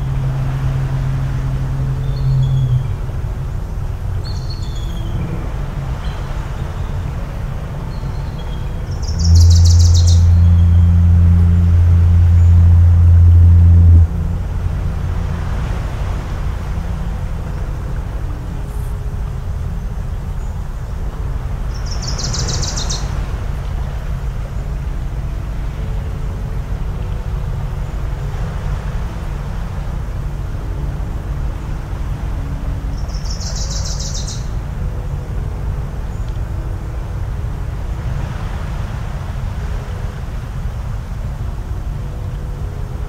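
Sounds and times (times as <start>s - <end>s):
faint distant motor hum: 0.0s - 43.0s
waves rumbling: 0.0s - 43.0s.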